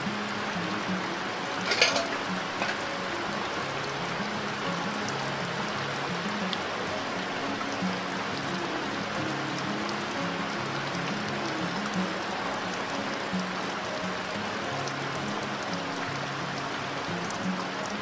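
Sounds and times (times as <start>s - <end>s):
soft music: 0.0s - 18.0s
water hiss: 0.0s - 18.0s.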